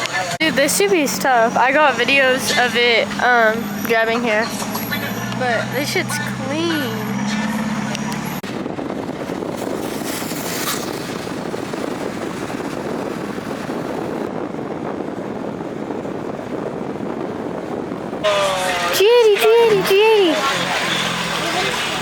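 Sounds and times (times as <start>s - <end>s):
rumbling vehicle noise: 0.0s - 22.0s.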